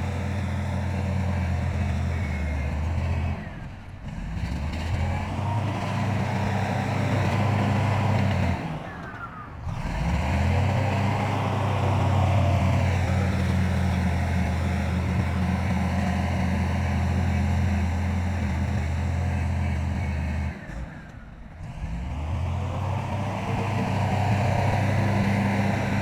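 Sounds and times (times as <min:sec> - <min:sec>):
heavy machinery diesel engine: 0:00.0 - 0:26.0.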